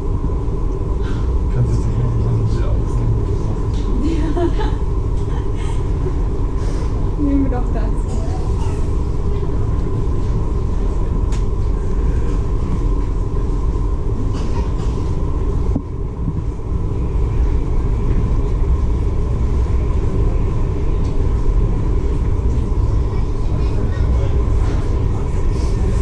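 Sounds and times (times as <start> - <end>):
faint steady hum: 0.0 - 26.0
ferry engine rumble: 0.0 - 26.0.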